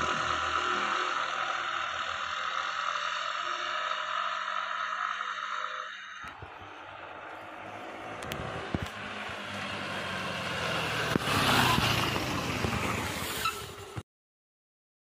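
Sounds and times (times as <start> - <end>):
scooters racing past: 0.0 - 4.7, 5.8 - 14.0.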